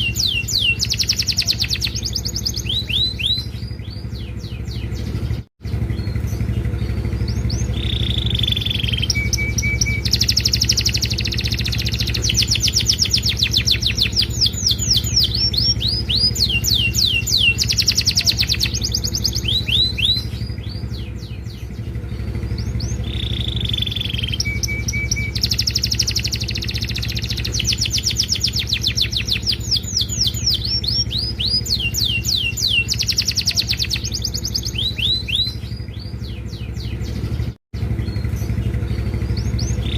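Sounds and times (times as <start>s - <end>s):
canary singing trills: 0.0s - 39.9s
steady low hum: 0.0s - 39.9s.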